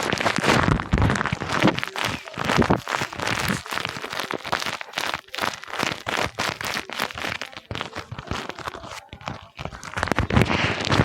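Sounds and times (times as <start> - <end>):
paper and tape crinkling: 0.0 - 11.0.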